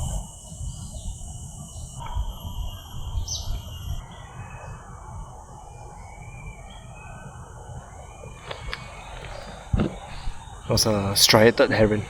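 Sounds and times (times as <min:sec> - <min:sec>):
low uneven rumble: 0:00.0 - 0:12.0
wild birds calling: 0:00.0 - 0:12.0.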